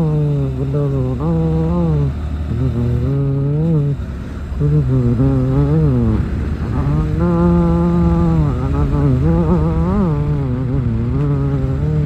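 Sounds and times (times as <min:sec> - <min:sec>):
man humming: 0:00.0 - 0:12.0
vehicle rumble: 0:00.0 - 0:12.0.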